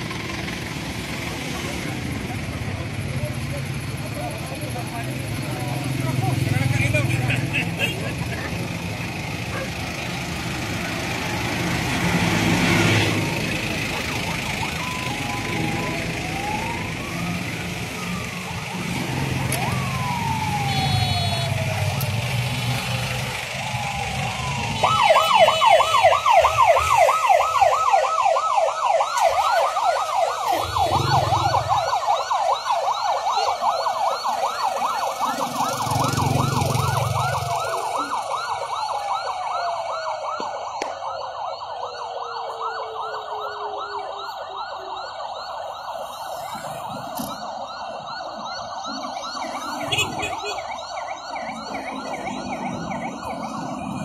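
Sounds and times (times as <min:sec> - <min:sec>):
emergency sirens yelping: 0:00.0 - 0:54.0
siren winding down: 0:03.8 - 0:54.0.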